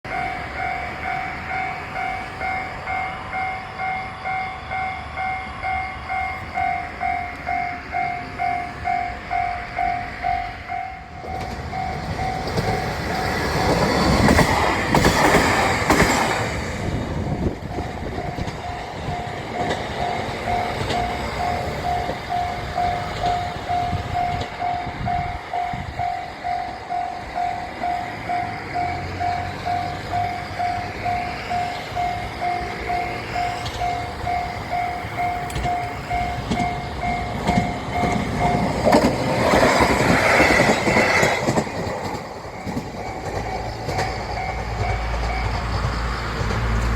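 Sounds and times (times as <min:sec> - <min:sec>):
level crossing warning bell: 0:00.0 - 0:46.9
train rumble: 0:00.0 - 0:46.9.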